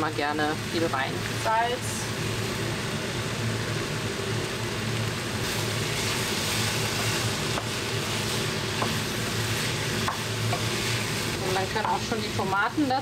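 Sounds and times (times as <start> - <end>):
meat and vegetables sizzling in pan: 0.0 - 13.0.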